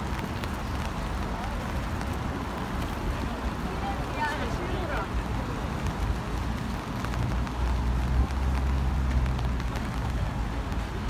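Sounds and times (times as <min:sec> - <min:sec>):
heavy rain on street: 0:00.0 - 0:11.0
traffic rumble: 0:00.0 - 0:11.0.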